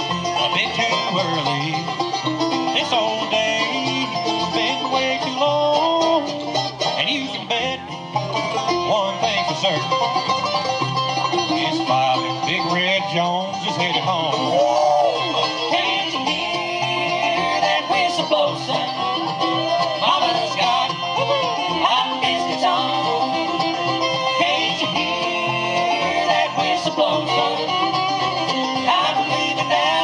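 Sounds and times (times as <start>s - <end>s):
banjo: 0.0s - 30.0s
guitar: 0.0s - 30.0s
lead instrument sliding melody: 0.0s - 30.0s.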